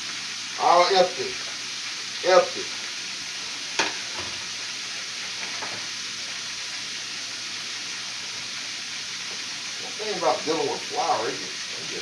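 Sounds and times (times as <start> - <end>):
livers sizzling in hot oil: 0.0 - 12.0.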